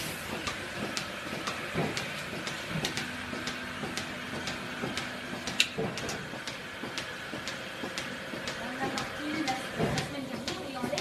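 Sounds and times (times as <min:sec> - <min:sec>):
milking machine clicking: 0:00.0 - 0:11.0.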